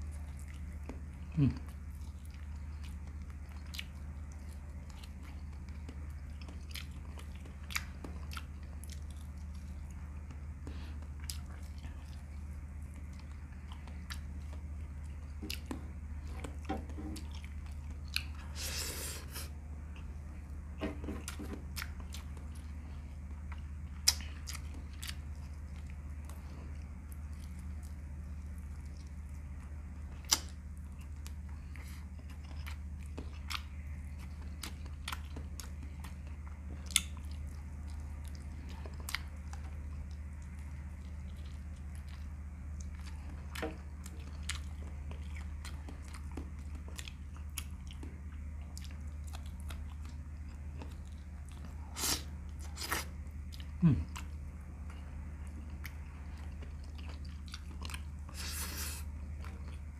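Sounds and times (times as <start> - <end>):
chewing and mouth sounds: 0.0 - 59.9
steady low hum: 0.0 - 59.9.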